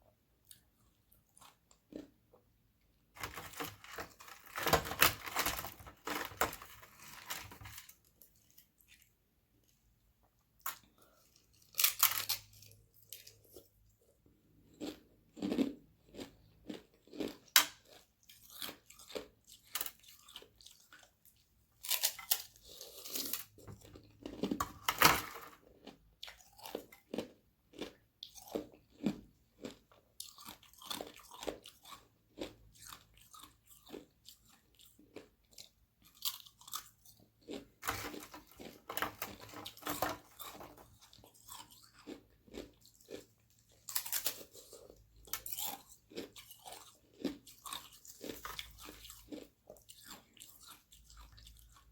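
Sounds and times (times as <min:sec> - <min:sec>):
ice being bitten and chewed: 0:03.2 - 0:09.9, 0:10.6 - 0:51.9.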